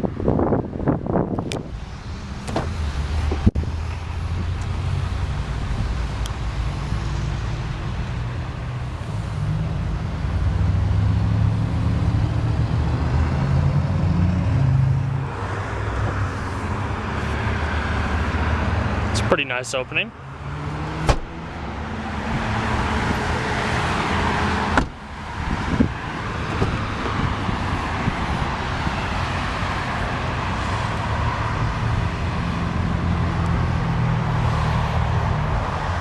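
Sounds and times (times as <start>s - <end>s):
highway traffic rumble: 0.0s - 36.0s.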